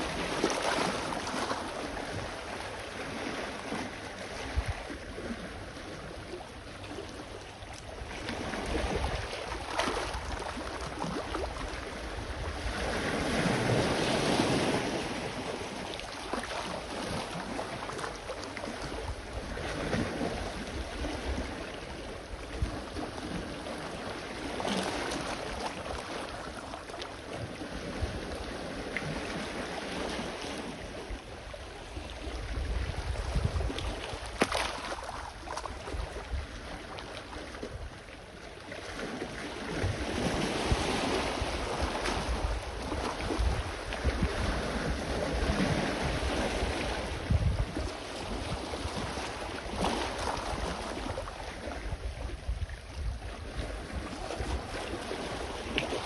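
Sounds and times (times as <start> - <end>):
sea waves washing ashore: 0.0 - 56.0
wind rumble on microphone: 0.0 - 56.0.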